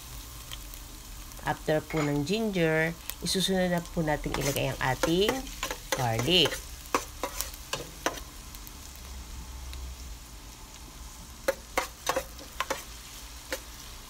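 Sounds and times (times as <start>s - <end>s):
ginger sizzling in hot oil: 0.0s - 14.0s.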